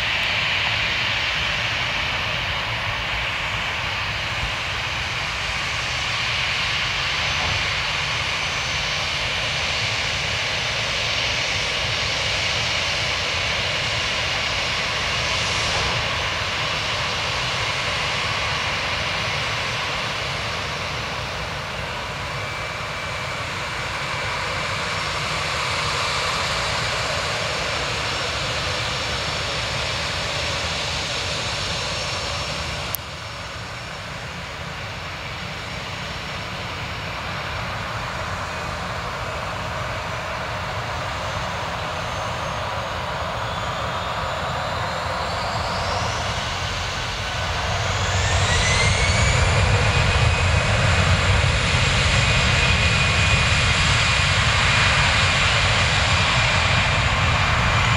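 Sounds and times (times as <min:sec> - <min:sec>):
jet engines running at low thrust: 0:00.0 - 0:57.9.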